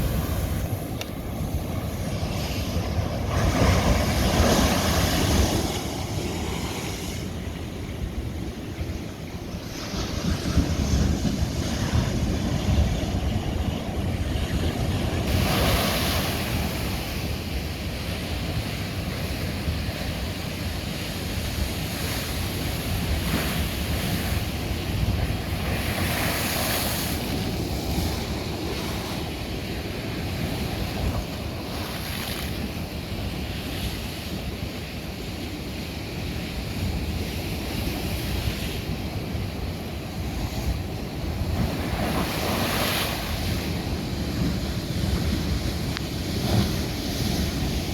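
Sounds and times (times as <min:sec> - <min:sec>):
ocean waves crashing on rocks: 0:00.0 - 0:47.9.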